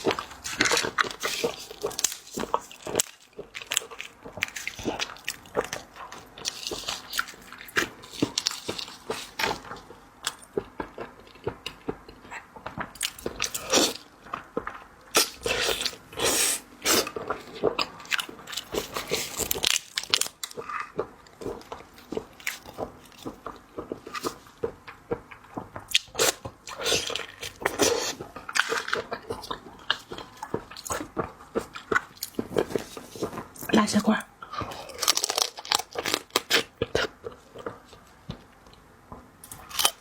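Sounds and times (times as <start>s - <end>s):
crunching and chewing: 0.0s - 40.0s.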